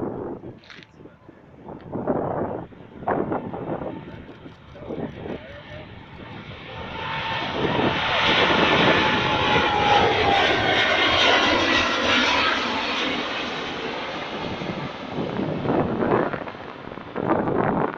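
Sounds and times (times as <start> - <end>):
faint jet whine: 0.0 - 17.9
jet engines passing: 1.6 - 17.9.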